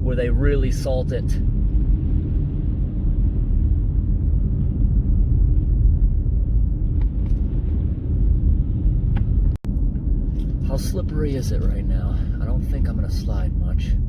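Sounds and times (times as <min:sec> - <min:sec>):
car tyre and engine rumble: 0:00.0 - 0:14.0.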